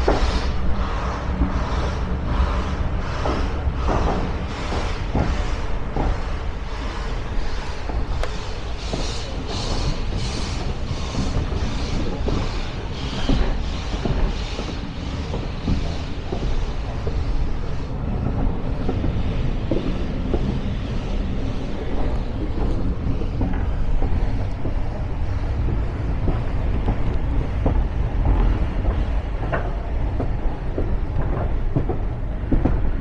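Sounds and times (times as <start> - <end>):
moving train rumble: 0.0 - 33.0
steam locomotive chuffing: 0.0 - 33.0.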